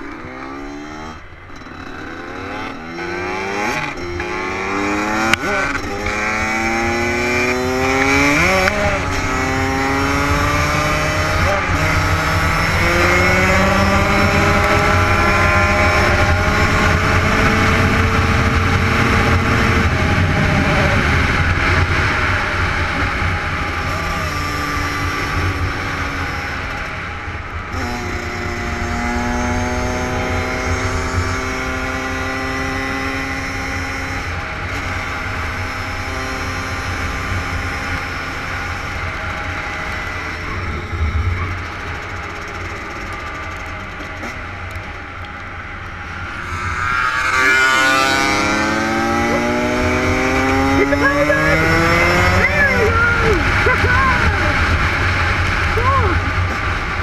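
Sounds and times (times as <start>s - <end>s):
dirt bike engine revving through gears: 0.0s - 57.0s.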